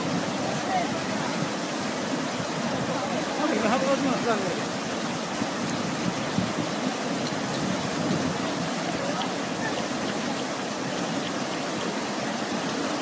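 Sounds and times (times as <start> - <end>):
fast-flowing floodwater: 0.0 - 13.0.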